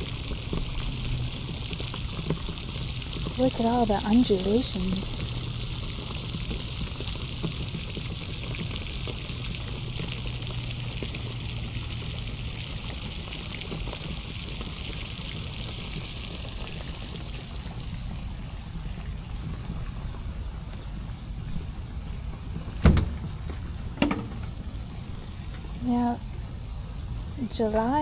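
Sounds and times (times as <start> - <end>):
steady rain falling: 0.0 - 22.6.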